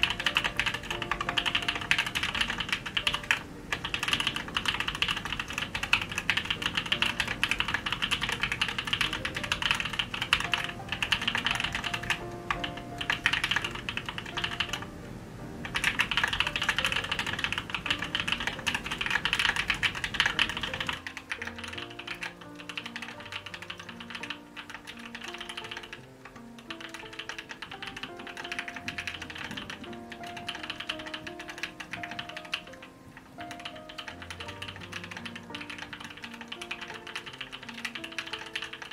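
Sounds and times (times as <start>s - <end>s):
mechanical keyboard typing: 0.0s - 14.9s, 15.6s - 38.9s
soft melodic music: 0.0s - 38.9s.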